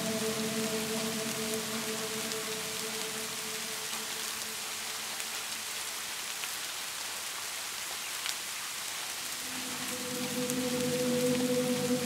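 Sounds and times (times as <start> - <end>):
raindrops ticking: 0.0 - 12.0
steady rain hiss: 0.0 - 12.0.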